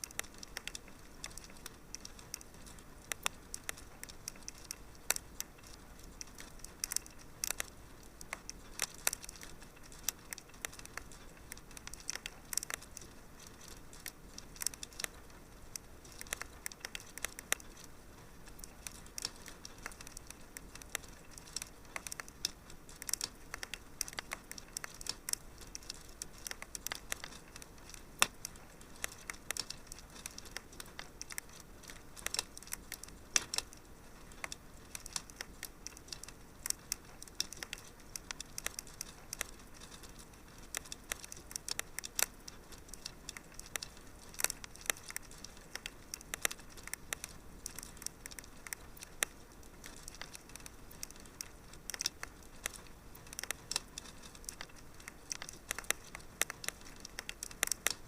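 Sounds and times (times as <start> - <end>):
faint steady hiss: 0.0 - 58.0
wood fire crackling and popping: 0.0 - 58.0.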